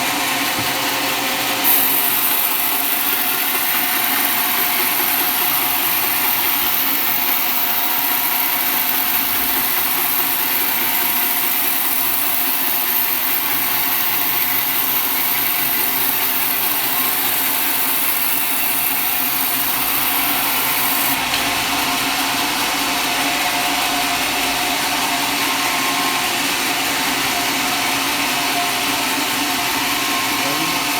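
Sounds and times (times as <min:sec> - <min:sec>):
sawmill machinery cutting wood: 0:00.0 - 0:30.9.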